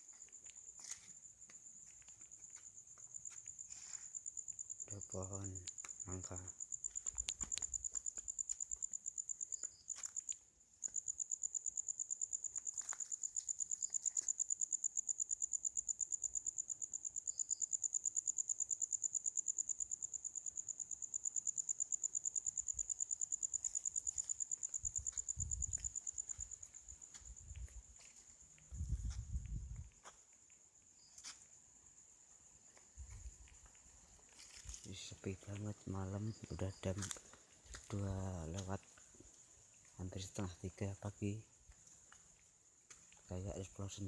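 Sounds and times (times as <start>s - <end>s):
cricket trilling: 0.0s - 44.0s.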